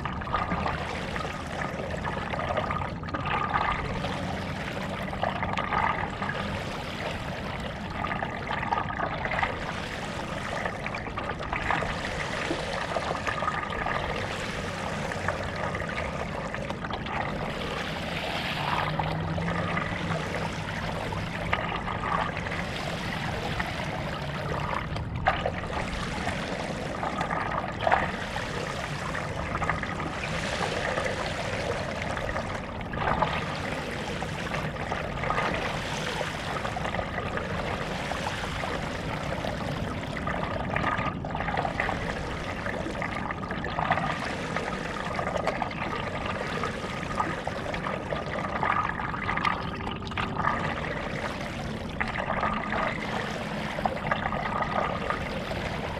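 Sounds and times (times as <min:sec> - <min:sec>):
paddle splashing in water: 0:00.0 - 0:55.9
water trickling off paddle: 0:00.0 - 0:55.9.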